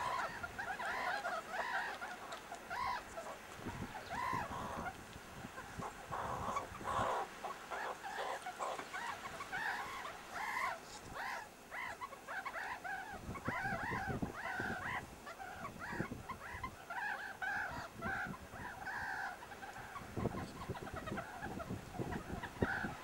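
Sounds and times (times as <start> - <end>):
meerkats chirping: 0.0 - 23.0.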